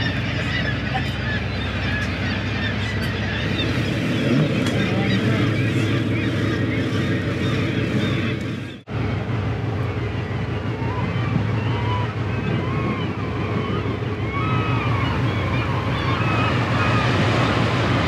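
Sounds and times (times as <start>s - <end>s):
boat engine drone: 0.0s - 18.0s
water rushing past boat: 0.0s - 18.0s
wind: 0.0s - 18.0s.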